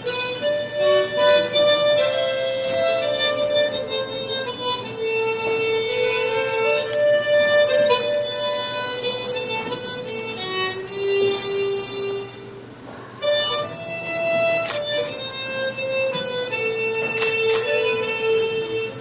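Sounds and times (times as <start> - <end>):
harmonicas playing slow melody: 0.0 - 19.0.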